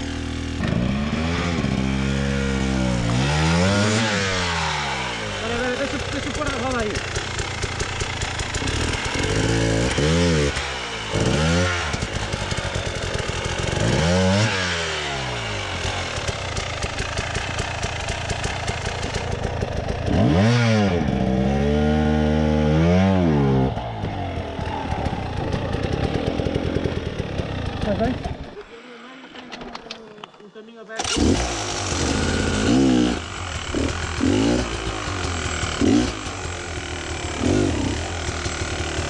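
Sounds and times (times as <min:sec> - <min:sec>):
dirt bike engine revving: 0:00.0 - 0:29.7, 0:30.7 - 0:39.0.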